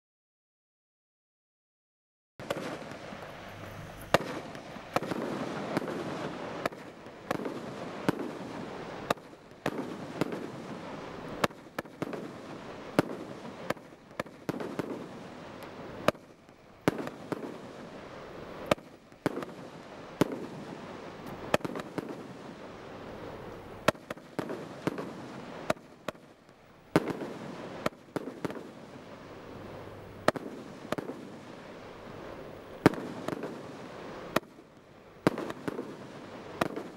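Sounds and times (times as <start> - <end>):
firework bangs: 2.4 - 36.9
firework rushing crackle: 2.4 - 36.9.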